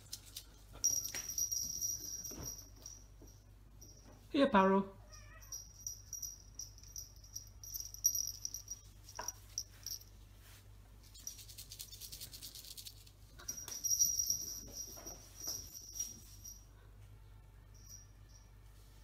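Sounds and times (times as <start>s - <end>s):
small bell jingling: 0.0s - 4.3s, 5.0s - 16.7s, 17.7s - 19.0s.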